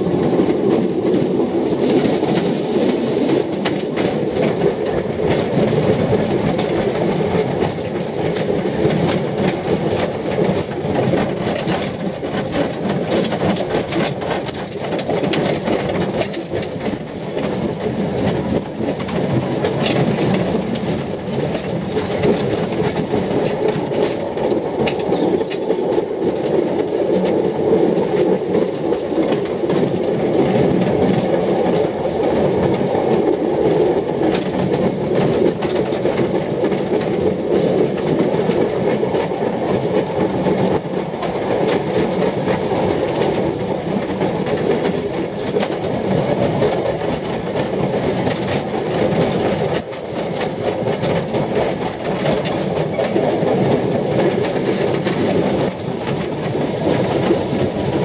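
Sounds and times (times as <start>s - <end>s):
train carriage rumbling: 0.0s - 58.0s
wheels clattering on rails: 0.0s - 58.0s.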